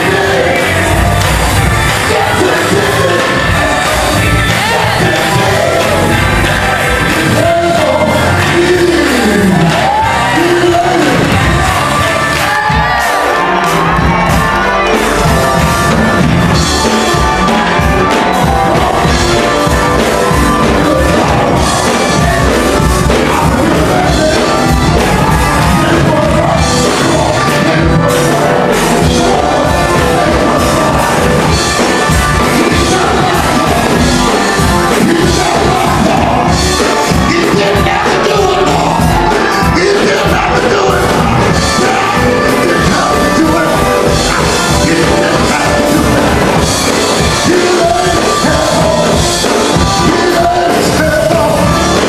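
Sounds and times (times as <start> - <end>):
drums with steady beat: 0.0 - 52.0
gospel band playing: 0.0 - 52.0
guitar: 0.0 - 52.0
person singing: 0.0 - 52.0.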